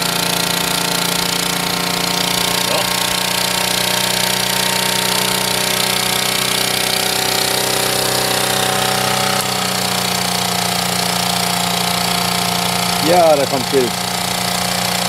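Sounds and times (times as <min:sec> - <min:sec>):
portable generator engine running: 0:00.0 - 0:15.0.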